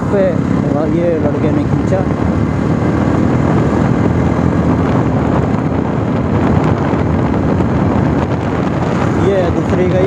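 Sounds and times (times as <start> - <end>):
motorcycle engine running: 0.0 - 10.0
wind rush on microphone: 0.0 - 10.0.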